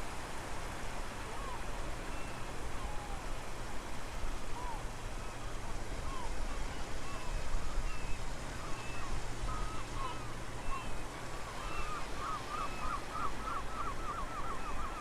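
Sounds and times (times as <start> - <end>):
shoreline water rushing: 0.0 - 15.0.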